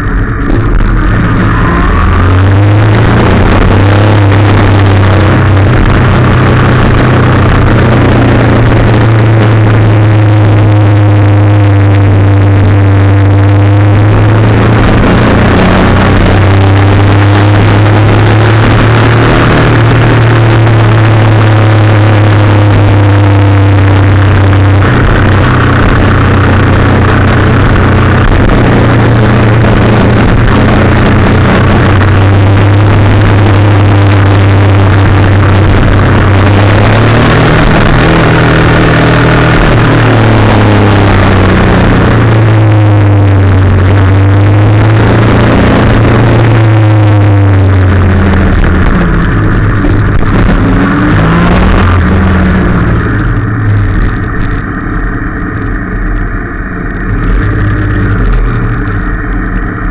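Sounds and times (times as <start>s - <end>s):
atv engine running hard: 0.0s - 59.9s
wind rushing over microphone: 0.0s - 59.9s.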